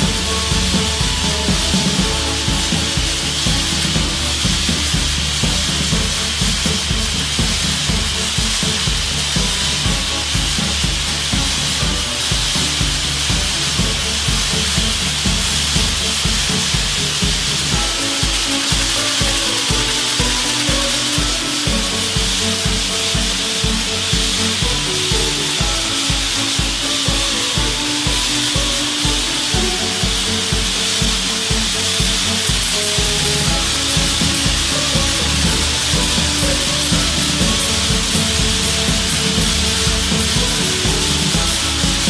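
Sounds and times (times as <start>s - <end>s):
background music with a beat: 0.0s - 42.0s
grit blasting hiss: 0.0s - 42.0s.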